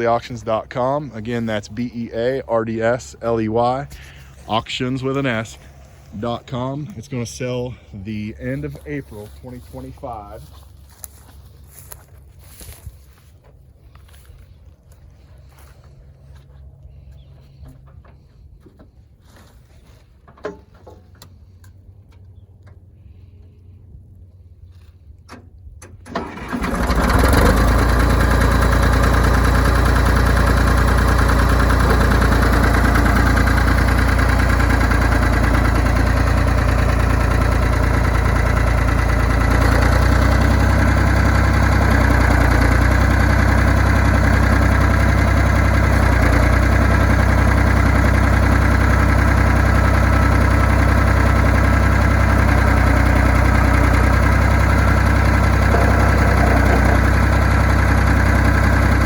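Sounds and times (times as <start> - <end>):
dozer engine starting and idling: 0.0 - 59.0.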